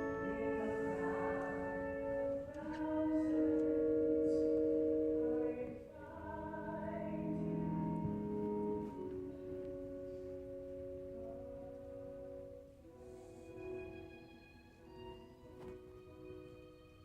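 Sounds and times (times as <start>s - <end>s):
slow choir-like music: 0.0s - 17.0s.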